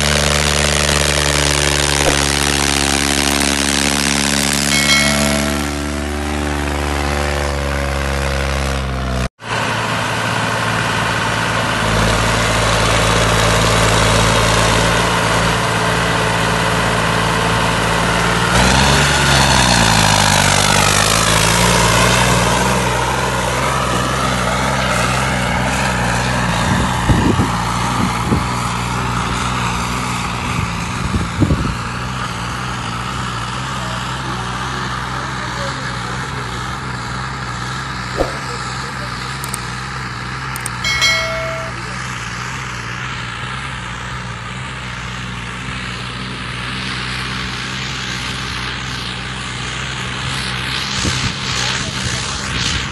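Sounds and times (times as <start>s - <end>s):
diesel tractor engine running hard: 0.0s - 4.9s, 5.8s - 37.6s, 43.0s - 52.9s.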